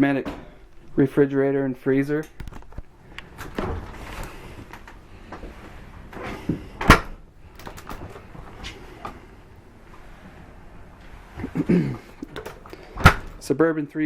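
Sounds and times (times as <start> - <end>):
refrigerator doors opening and shutting: 0.0 - 1.1, 1.9 - 13.5.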